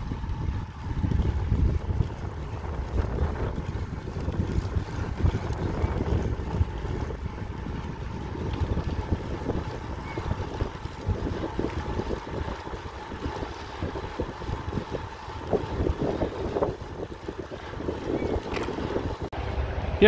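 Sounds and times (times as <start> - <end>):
bike tyres rolling on asphalt: 0.0 - 20.0
wind buffeting microphone: 0.0 - 20.0.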